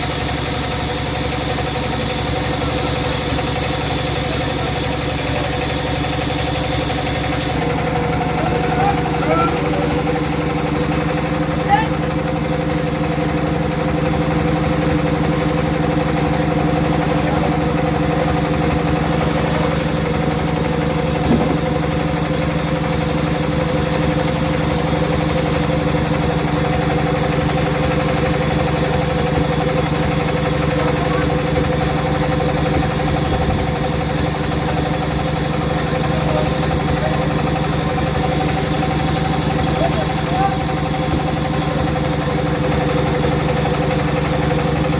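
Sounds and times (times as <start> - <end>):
sawmill motor droning: 0.0 - 44.9.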